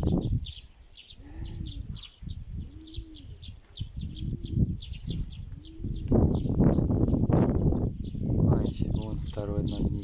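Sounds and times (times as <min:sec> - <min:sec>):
small birds chirping: 0:00.0 - 0:10.0
wind rumbling on microphone: 0:00.0 - 0:10.0
pigeons cooing: 0:00.1 - 0:10.0.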